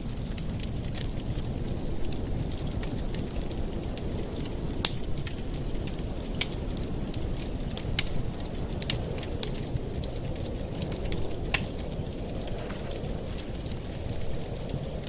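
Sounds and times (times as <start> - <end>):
rumble of flame: 0.0 - 15.0
wood crackling and popping: 0.0 - 15.0.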